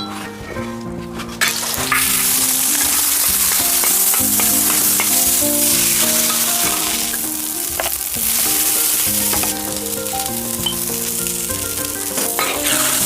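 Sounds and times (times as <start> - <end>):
soft melody: 0.0 - 13.0
food sizzling in a pan: 1.5 - 13.0.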